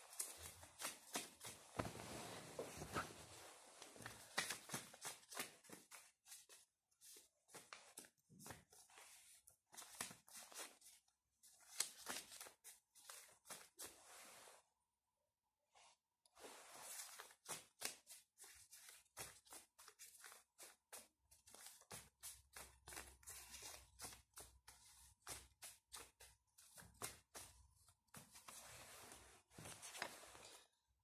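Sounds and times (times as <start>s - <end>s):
cards being shuffled: 0.0s - 11.0s, 11.6s - 13.9s, 16.8s - 30.5s.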